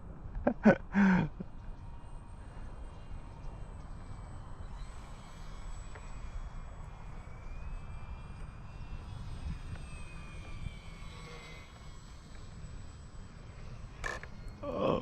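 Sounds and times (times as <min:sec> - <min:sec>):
model airplane motor whining: 0:01.5 - 0:15.0.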